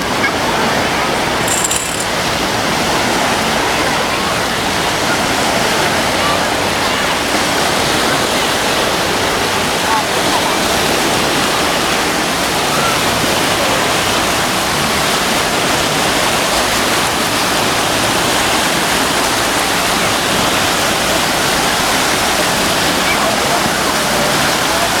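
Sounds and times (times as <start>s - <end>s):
falling water rushing: 0.0s - 25.0s.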